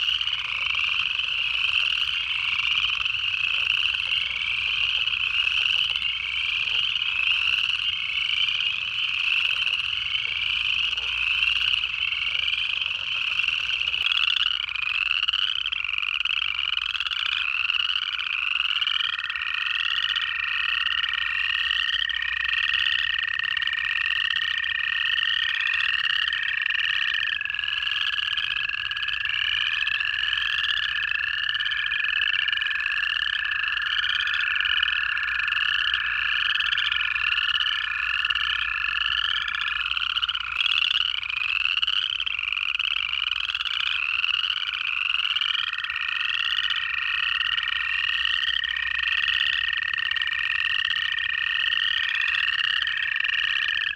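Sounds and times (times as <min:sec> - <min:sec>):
chorus frogs trilling: 0:00.0 - 0:53.9
toad trills: 0:00.0 - 0:53.9.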